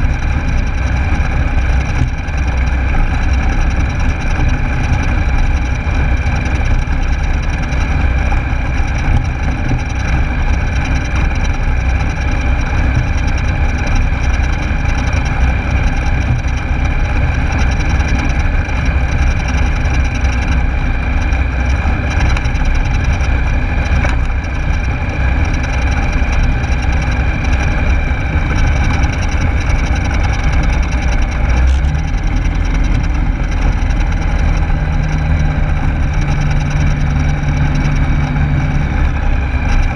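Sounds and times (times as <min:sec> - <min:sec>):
aircraft engine drone: 0:00.0 - 0:39.9
steady low hum: 0:00.0 - 0:39.9.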